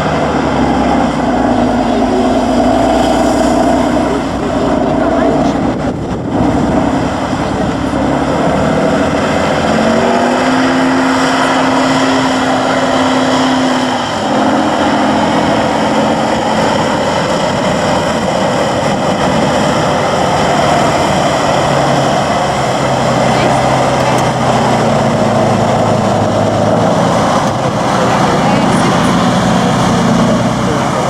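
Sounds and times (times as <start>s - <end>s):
diesel truck engine running hard: 0.0s - 31.0s.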